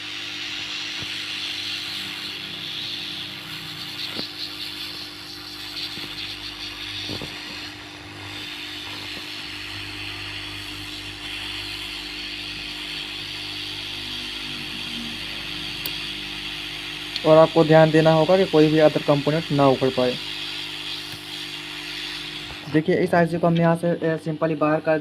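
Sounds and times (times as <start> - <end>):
hot-air blower hissing: 0.0 - 25.0
steady hum: 0.0 - 25.0.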